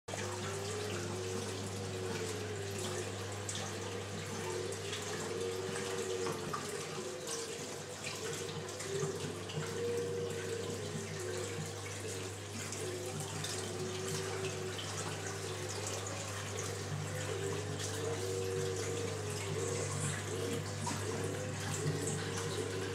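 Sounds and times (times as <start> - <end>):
water running and splashing: 0.1 - 22.9.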